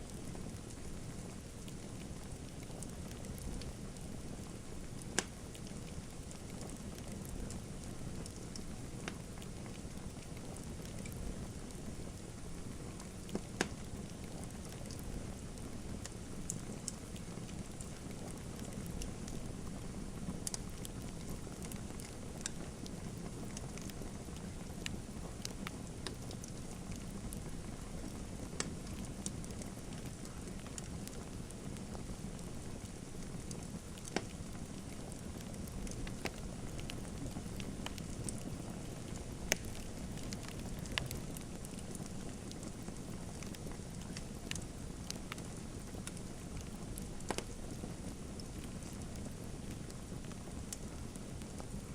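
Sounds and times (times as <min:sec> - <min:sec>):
low rumble of burning fire: 0:00.0 - 0:51.9
wood fire crackling: 0:00.0 - 0:51.9.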